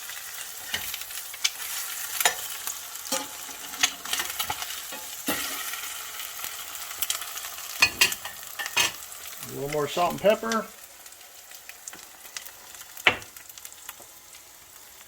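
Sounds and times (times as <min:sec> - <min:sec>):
eggs sizzling in skillet: 0:00.0 - 0:15.0.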